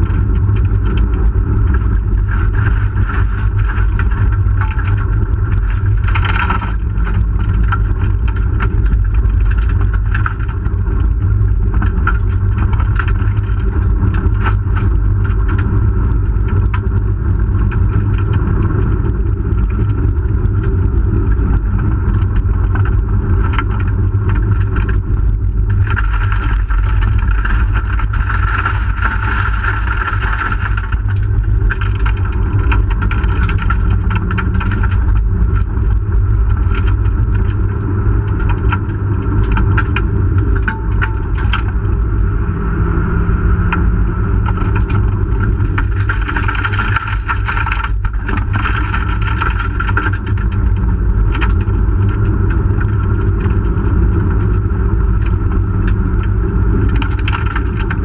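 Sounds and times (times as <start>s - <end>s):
rally car engine under load: 0.0s - 58.0s
tyre and road rumble: 0.0s - 58.0s.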